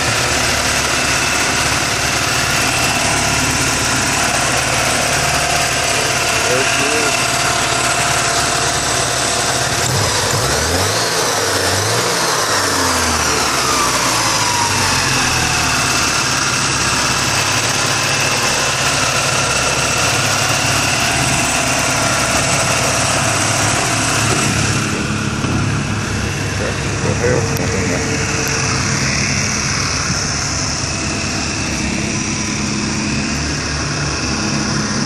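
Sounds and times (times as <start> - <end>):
car engine revving then idling: 0.0 - 35.0.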